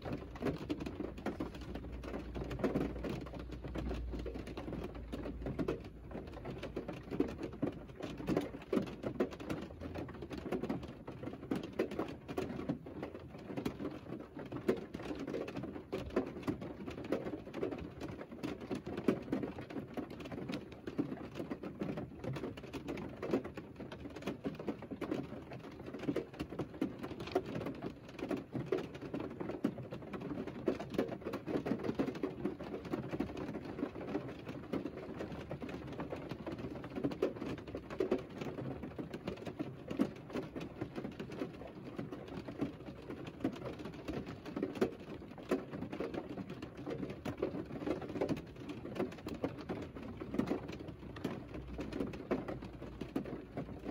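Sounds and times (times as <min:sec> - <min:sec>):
rain pattering on a car roof: 0:00.0 - 0:53.9.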